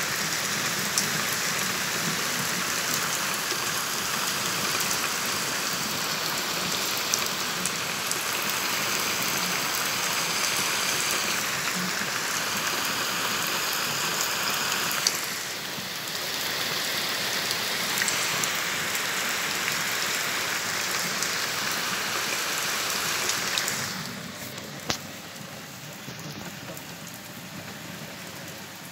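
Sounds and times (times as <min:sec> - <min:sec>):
torrential rain hissing: 0:00.0 - 0:28.9.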